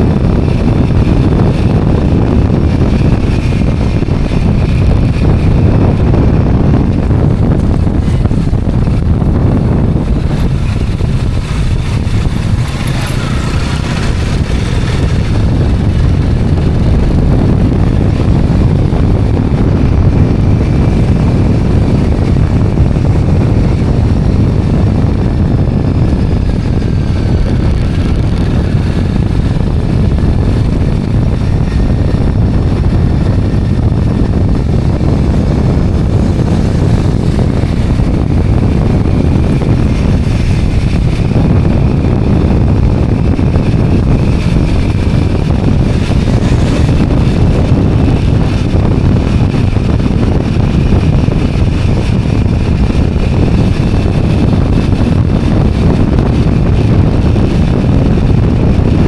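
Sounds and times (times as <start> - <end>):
motorbike engine: 0.0 - 59.0
road noise: 0.0 - 59.0
wind buffeting microphone: 0.0 - 59.0.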